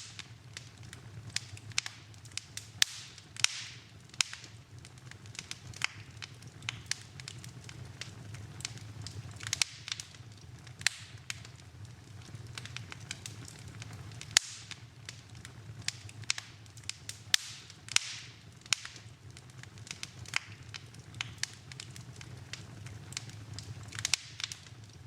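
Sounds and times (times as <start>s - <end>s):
fire hissing: 0.0s - 25.0s
wood fire crackling: 0.0s - 25.0s.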